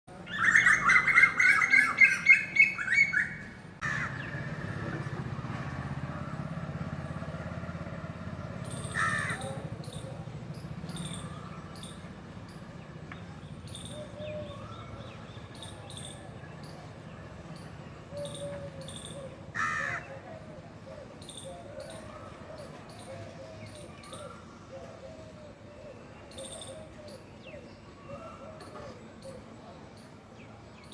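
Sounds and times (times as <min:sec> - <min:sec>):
birds calling harshly: 0:00.1 - 0:04.8, 0:08.4 - 0:16.9, 0:17.6 - 0:30.9.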